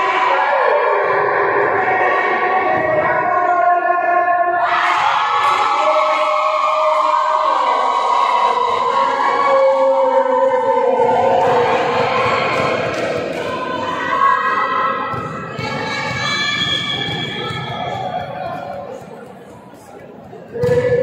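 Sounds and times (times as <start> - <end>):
crowd noise: 0.0 - 21.0.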